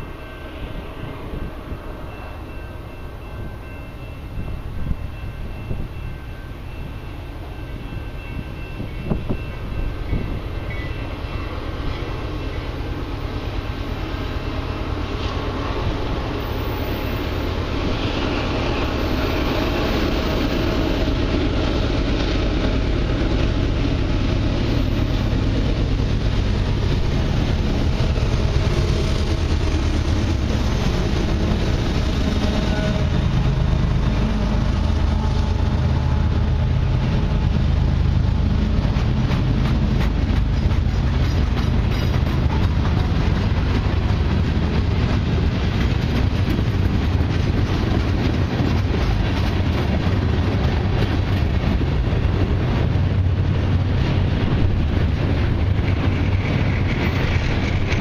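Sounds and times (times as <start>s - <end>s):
train wheels rumbling on rail: 0.0s - 58.0s
locomotive rumble: 7.8s - 58.0s.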